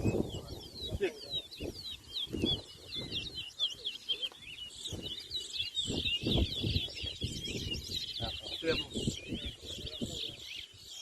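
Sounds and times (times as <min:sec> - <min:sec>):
finch twittering song: 0:00.0 - 0:11.0.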